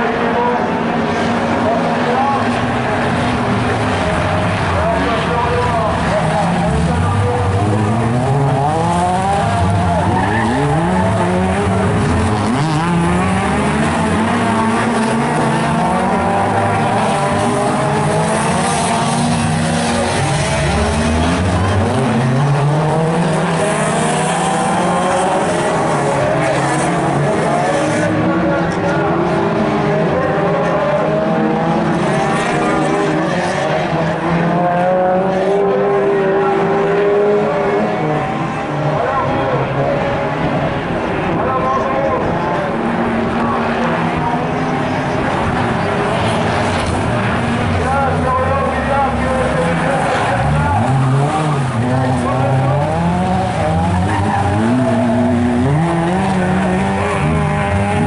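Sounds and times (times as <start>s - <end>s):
racing car engines accelerating: 0.0s - 58.0s.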